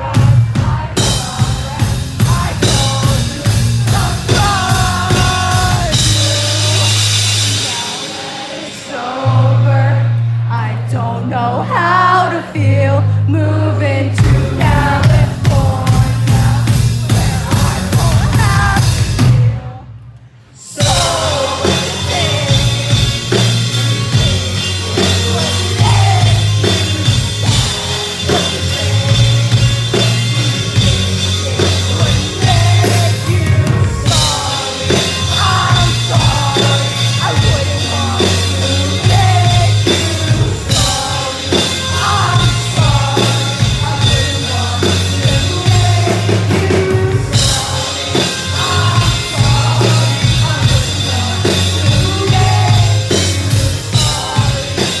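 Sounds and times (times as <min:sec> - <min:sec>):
drum kit: 0:00.0 - 0:11.0, 0:14.1 - 0:55.0
heavy low bass: 0:00.0 - 0:20.0, 0:20.8 - 0:55.0
male lead singer: 0:00.0 - 0:55.0.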